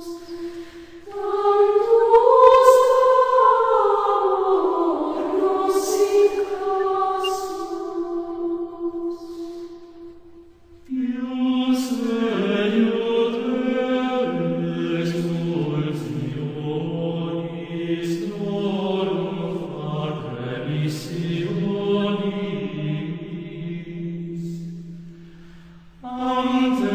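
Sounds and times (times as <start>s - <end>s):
voices singing slow chant: 0.0s - 26.9s.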